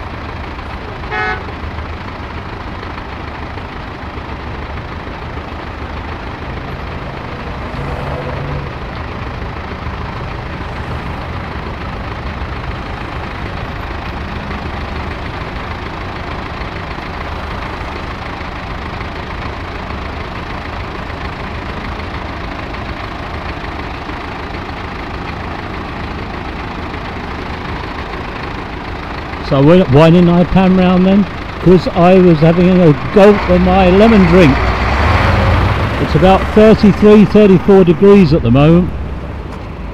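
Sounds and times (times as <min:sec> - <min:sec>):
street traffic noise: 0:00.0 - 0:39.9
truck diesel engine running: 0:00.0 - 0:39.9.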